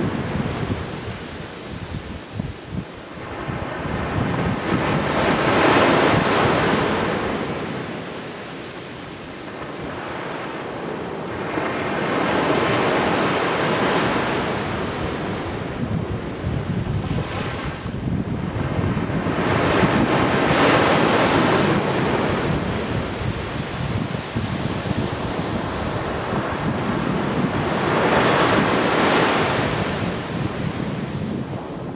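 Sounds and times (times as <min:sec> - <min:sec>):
small waves breaking on beach: 0:00.0 - 0:31.9.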